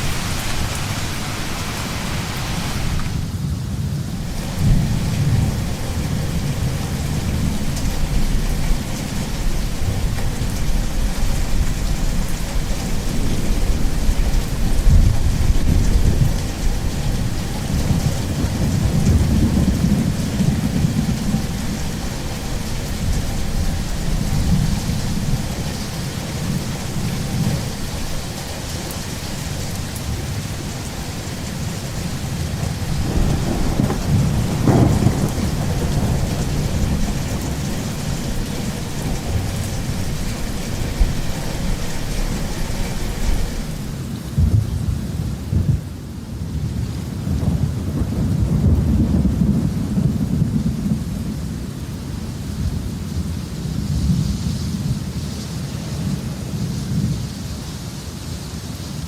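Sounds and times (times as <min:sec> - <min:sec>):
rolling thunder rumbling: 0:00.0 - 0:55.2
steady rain falling: 0:00.0 - 0:59.0.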